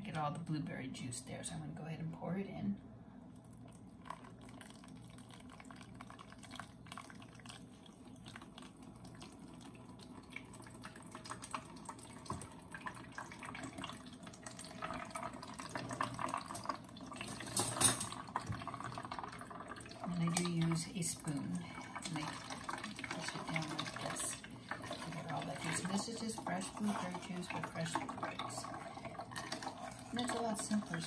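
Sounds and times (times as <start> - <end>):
juice dripping through strainer: 3.2 - 31.0.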